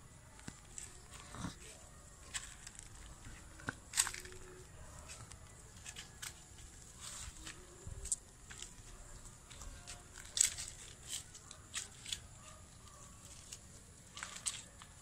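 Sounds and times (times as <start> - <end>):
light clicks and crunches: 0.3 - 15.0.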